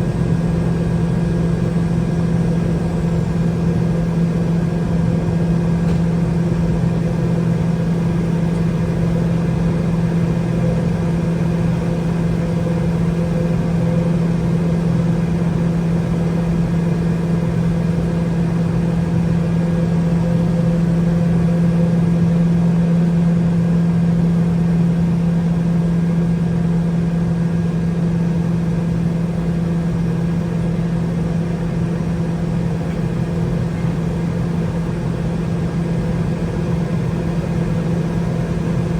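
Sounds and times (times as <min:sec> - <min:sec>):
jet engine idling drone: 0:00.0 - 0:38.9.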